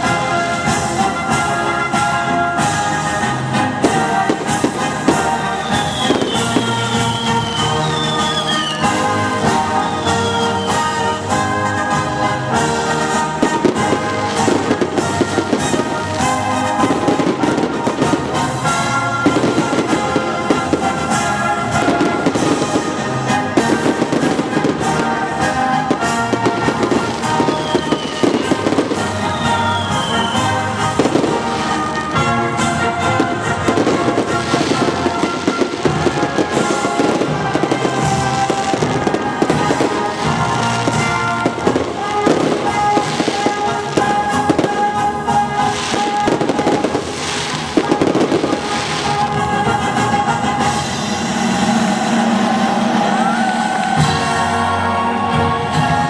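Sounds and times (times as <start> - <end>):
fireworks bursting and crackling: 0.0 - 54.8
music playing: 0.0 - 56.0.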